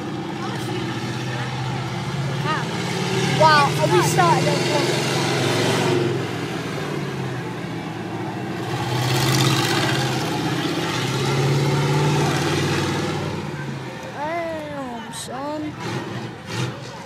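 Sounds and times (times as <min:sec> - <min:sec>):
truck engine revving: 0:00.0 - 0:14.8, 0:15.5 - 0:17.0.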